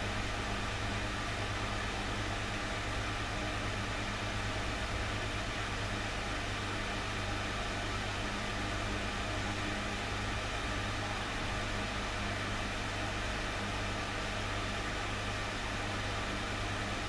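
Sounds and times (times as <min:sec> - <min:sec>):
aquarium equipment hum and hiss: 0:00.0 - 0:17.0.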